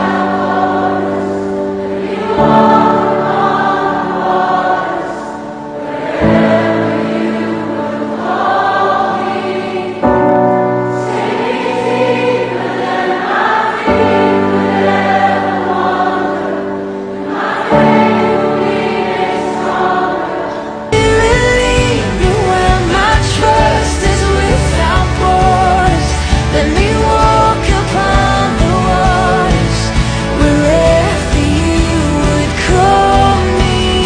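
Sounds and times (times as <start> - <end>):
choir singing slow chords: 0.0 - 34.0.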